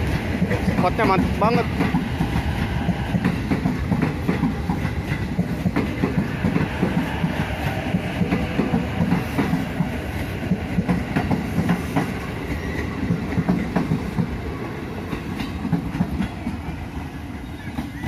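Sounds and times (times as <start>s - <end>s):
electric train rumble: 0.0s - 18.0s
wheels clacking on rails: 0.0s - 18.0s.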